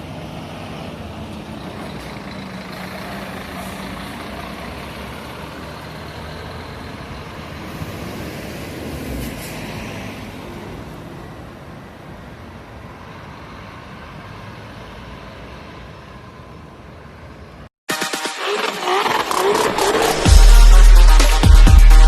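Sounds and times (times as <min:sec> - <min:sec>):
bus engine running: 0:00.0 - 0:17.7.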